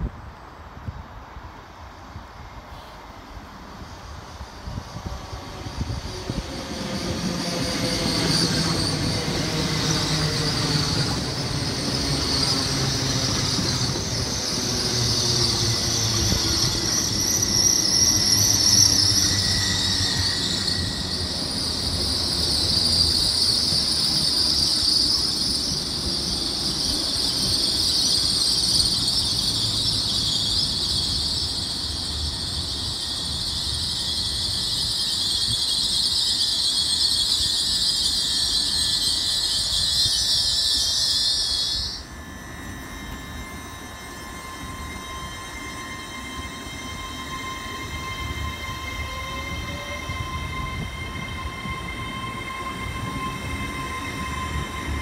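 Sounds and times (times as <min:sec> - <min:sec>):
train whine: 0:00.0 - 0:55.0
wheels and brakes squealing: 0:02.3 - 0:55.0.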